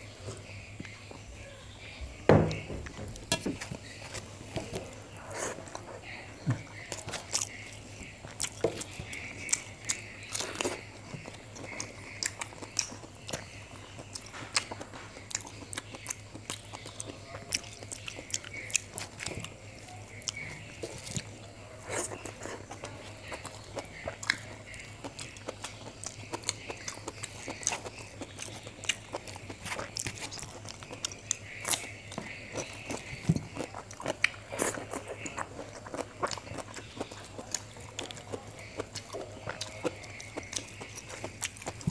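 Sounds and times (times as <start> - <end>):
chewing and lip smacking: 0.0 - 41.9.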